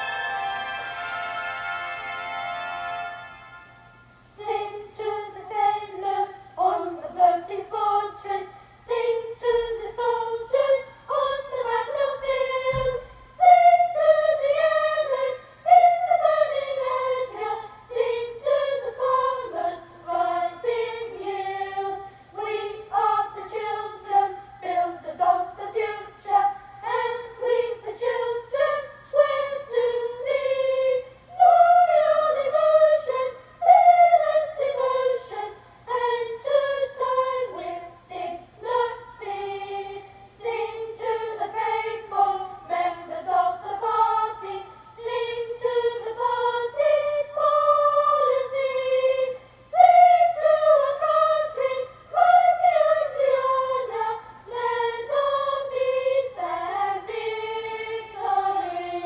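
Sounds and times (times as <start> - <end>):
choir singing unaccompanied: 0.0 - 59.0.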